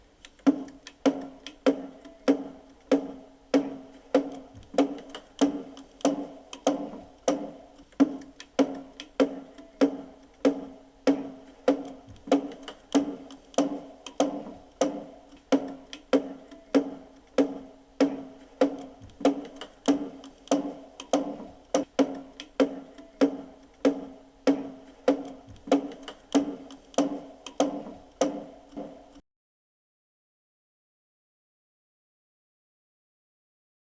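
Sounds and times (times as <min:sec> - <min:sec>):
wooden mallet hammering wood block: 0:00.5 - 0:29.1.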